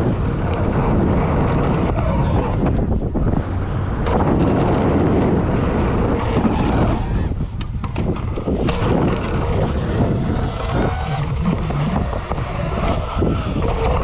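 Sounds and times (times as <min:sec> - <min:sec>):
vehicle low rumble: 0:00.0 - 0:14.0
wind buffeting microphone: 0:00.0 - 0:14.0.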